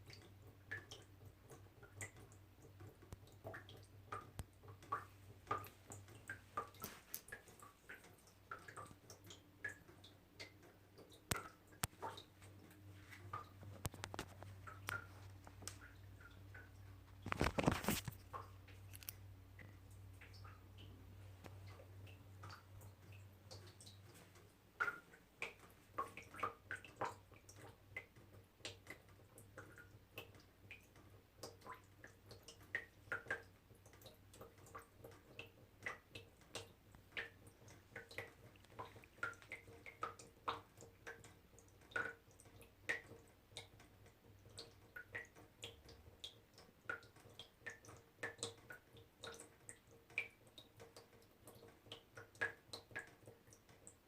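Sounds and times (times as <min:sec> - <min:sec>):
low steady hum: 0:00.0 - 0:47.4
water drops dripping: 0:00.0 - 0:54.0.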